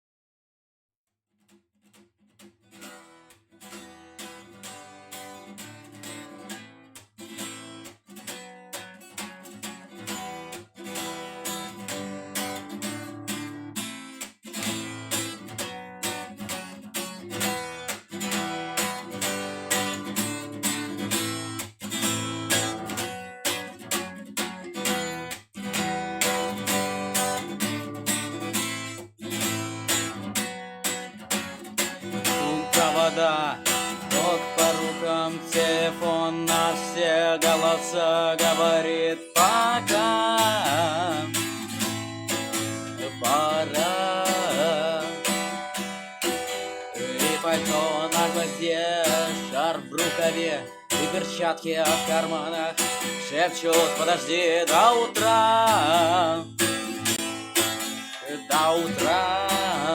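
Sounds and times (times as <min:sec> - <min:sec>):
acoustic guitar strumming: 0:02.6 - 0:59.9.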